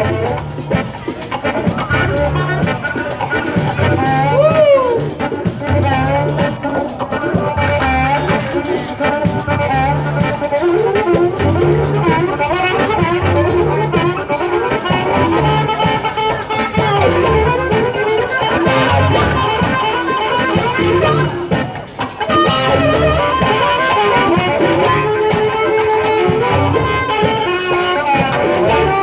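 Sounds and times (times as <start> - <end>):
amplified harmonica bending notes: 0.0 - 29.0
live blues band: 0.0 - 29.0.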